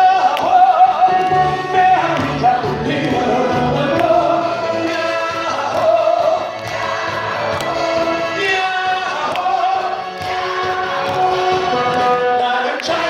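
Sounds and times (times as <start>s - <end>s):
amplified backing music: 0.0s - 13.0s
voices singing in unison: 0.0s - 13.0s.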